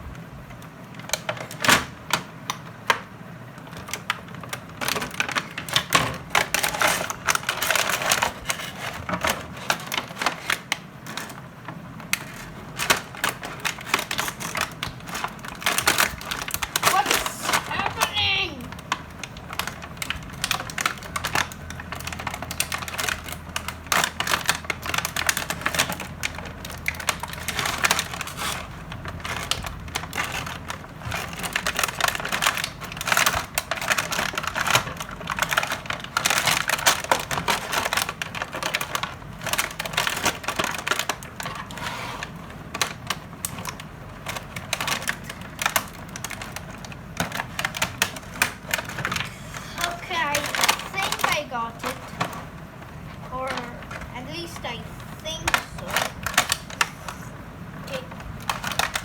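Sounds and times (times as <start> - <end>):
packaging crackling: 0.5 - 59.0.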